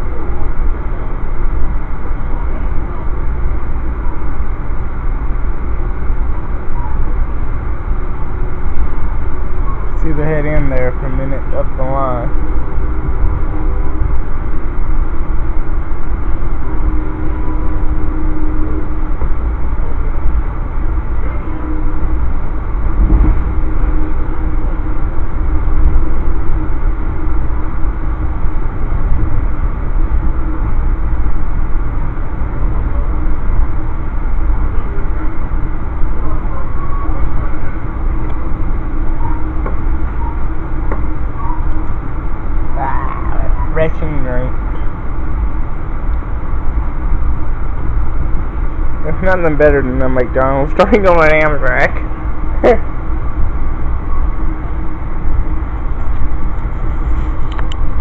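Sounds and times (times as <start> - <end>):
faint hum: 0.0 - 58.0
train rumbling on track: 0.0 - 58.0.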